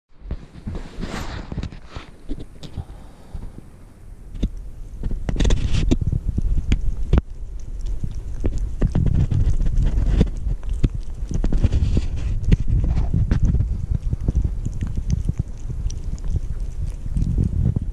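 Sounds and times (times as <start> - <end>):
low rumble: 0.2 - 17.9
kitten chewing and lapping food: 1.5 - 17.9.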